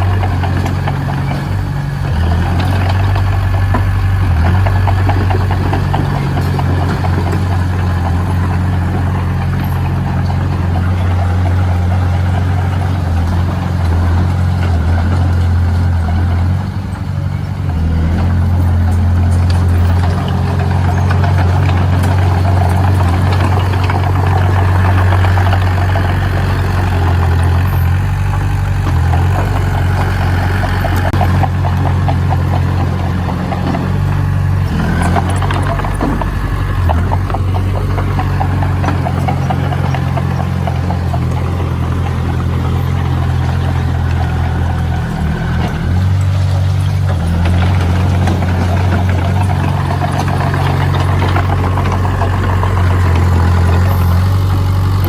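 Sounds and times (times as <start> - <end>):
heavy machine engine running: 0.0 - 55.0
rough clatter: 0.0 - 55.0.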